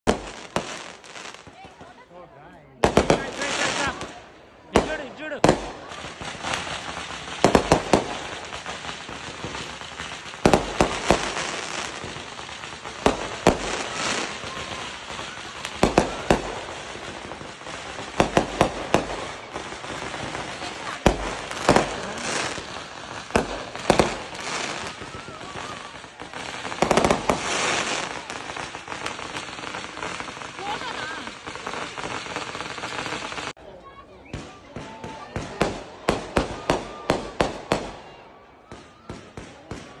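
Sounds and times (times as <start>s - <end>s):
fireworks bursting: 0.0s - 2.1s, 2.7s - 40.0s.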